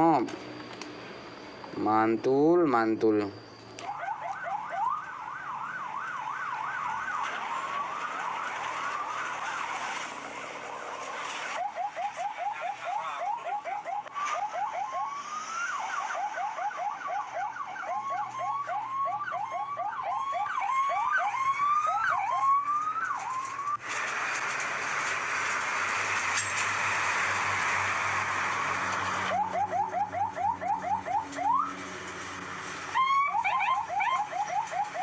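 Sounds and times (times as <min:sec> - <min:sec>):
toy electronic siren: 0:00.0 - 0:23.8, 0:28.4 - 0:31.8, 0:32.9 - 0:35.0.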